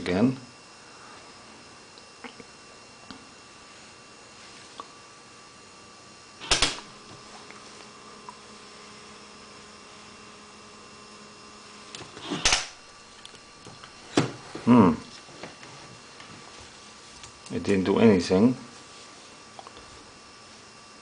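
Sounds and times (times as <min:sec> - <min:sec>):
small electric motors humming: 0:00.0 - 0:21.0.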